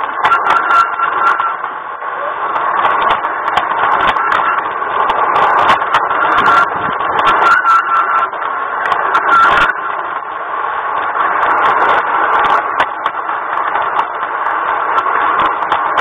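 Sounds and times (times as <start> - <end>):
faint motor whine: 0.0 - 16.0
model train wheels rattling on rails: 0.0 - 16.0.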